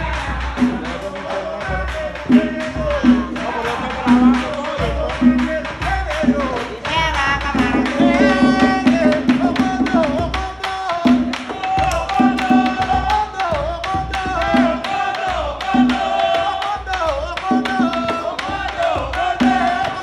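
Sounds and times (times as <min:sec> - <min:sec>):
hand drumming: 0:00.0 - 0:20.0
lead voice singing: 0:00.0 - 0:20.0
people singing along: 0:00.0 - 0:20.0.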